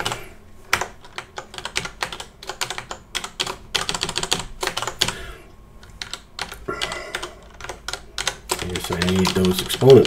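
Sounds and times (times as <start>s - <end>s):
typing on computer keyboard: 0.0s - 5.2s, 5.9s - 10.0s.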